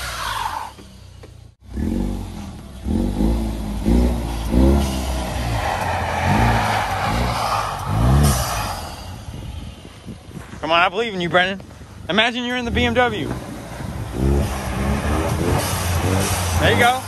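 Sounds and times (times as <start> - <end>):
car engine revving: 0.0 - 10.3, 12.5 - 17.0.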